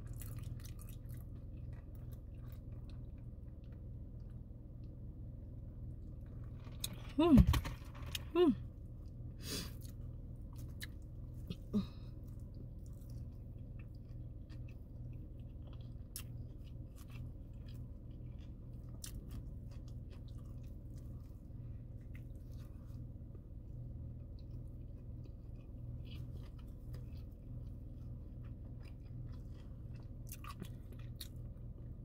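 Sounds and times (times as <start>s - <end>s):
chewing and biting: 0.0s - 5.0s, 9.1s - 32.0s
low hum: 0.0s - 32.0s.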